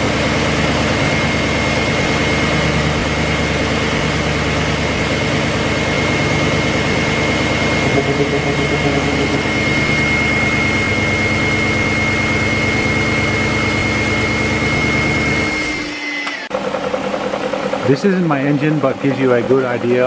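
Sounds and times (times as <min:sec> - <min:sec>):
engine idling: 0:00.0 - 0:15.7, 0:16.5 - 0:20.0.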